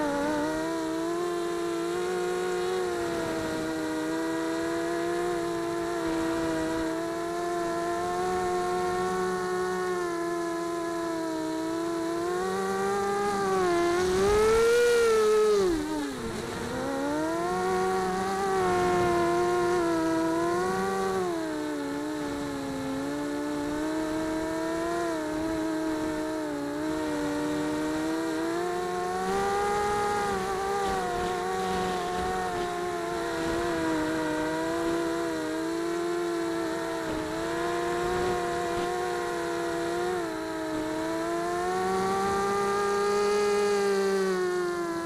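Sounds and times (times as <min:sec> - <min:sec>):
drone motors whining: 0:00.0 - 0:45.0.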